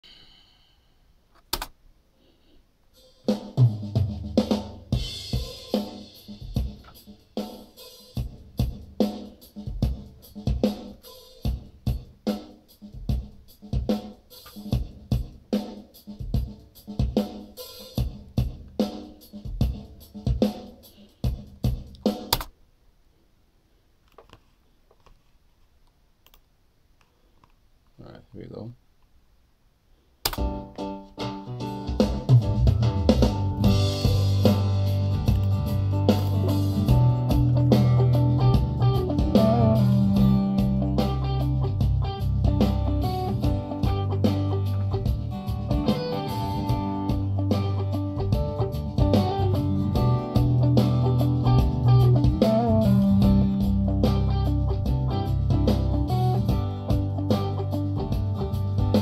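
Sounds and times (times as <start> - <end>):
drum kit groove: 2.9 - 22.6, 30.2 - 59.0.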